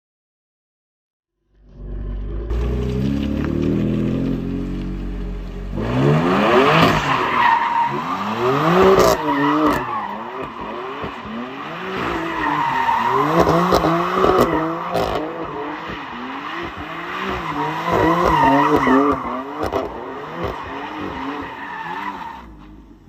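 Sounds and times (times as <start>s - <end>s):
exhaust cracks: 1.5s - 21.5s
car engine revving: 1.5s - 23.0s.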